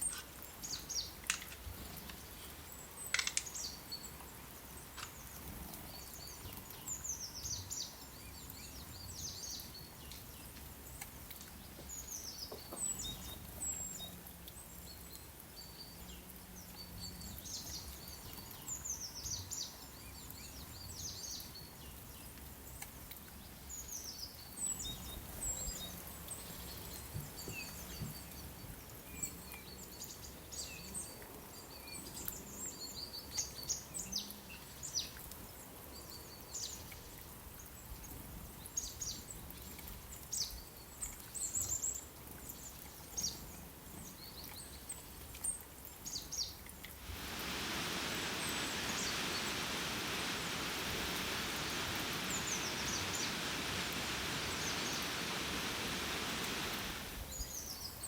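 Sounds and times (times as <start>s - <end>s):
steady hiss: 0.0s - 40.9s, 46.1s - 58.0s
small birds chirping: 0.0s - 58.0s.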